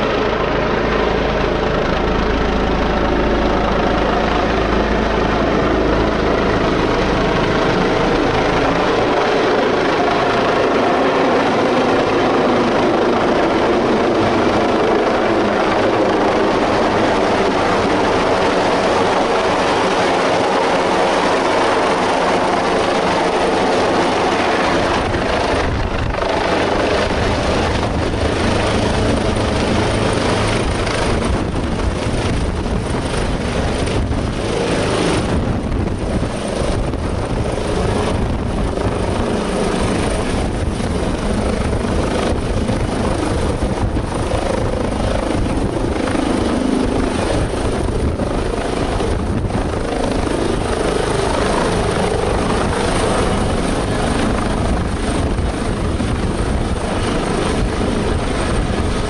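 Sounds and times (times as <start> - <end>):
helicopter rotor thrum: 0.0 - 59.0.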